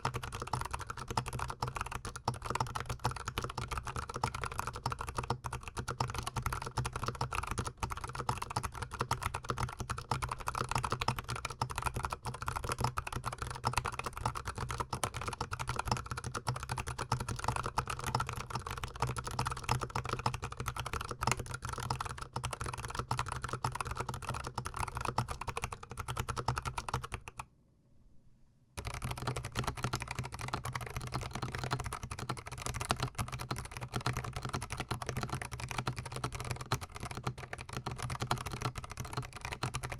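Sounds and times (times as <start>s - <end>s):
fast typing on mechanical keyboard: 0.0s - 27.4s, 28.8s - 39.9s.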